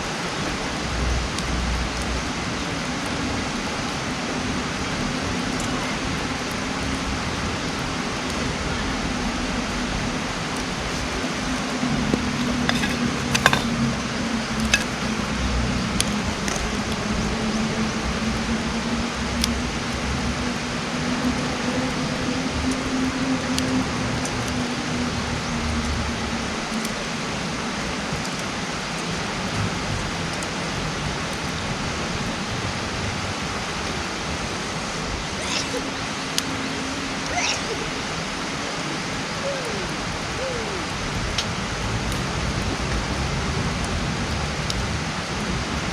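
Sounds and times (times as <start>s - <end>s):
campfire hissing: 0.0s - 45.9s.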